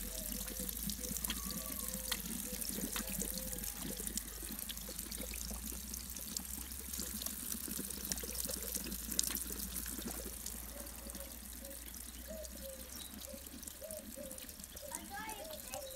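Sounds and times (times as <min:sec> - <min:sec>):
cat lapping water: 0:00.0 - 0:15.7
water trickling into stone basin: 0:00.0 - 0:15.9.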